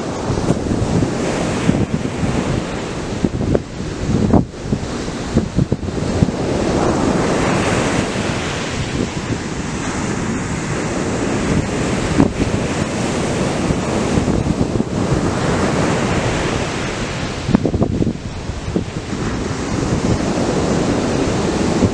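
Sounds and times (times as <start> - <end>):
waves breaking on beach: 0.0 - 21.9.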